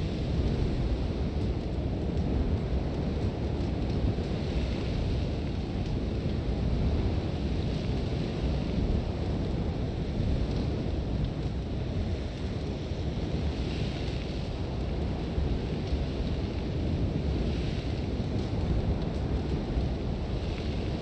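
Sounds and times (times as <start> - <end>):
strong wind rumbling: 0.0 - 21.0.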